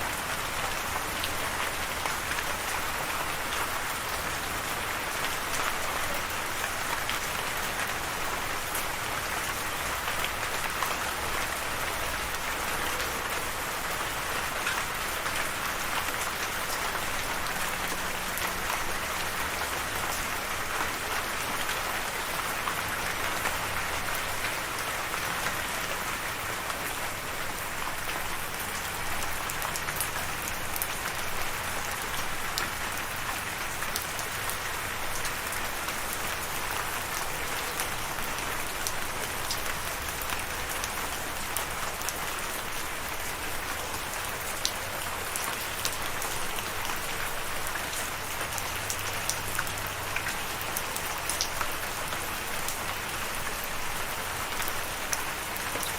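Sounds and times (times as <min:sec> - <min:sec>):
raindrops ticking on a surface: 0:00.0 - 0:55.9
steady rain hiss: 0:00.0 - 0:55.9.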